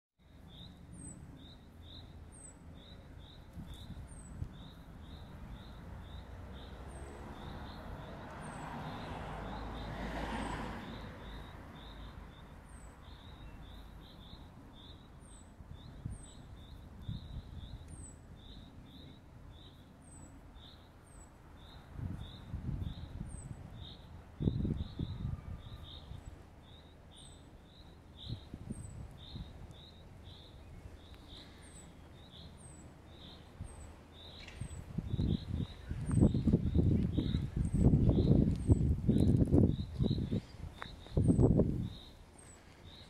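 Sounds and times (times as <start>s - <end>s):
small birds chirping: 0.2s - 10.0s, 10.8s - 43.0s.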